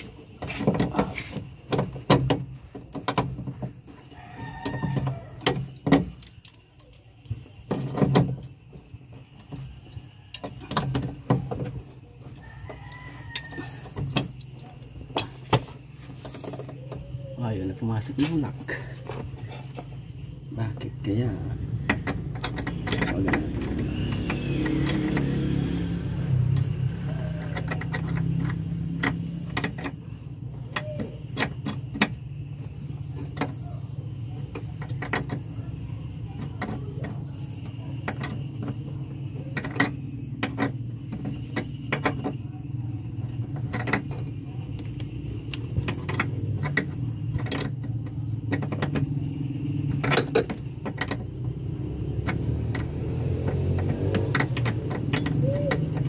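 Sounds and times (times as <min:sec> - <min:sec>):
metallic clicks and clunks: 0:00.0 - 0:17.1, 0:18.0 - 0:56.0
steady low hum: 0:00.0 - 0:56.0.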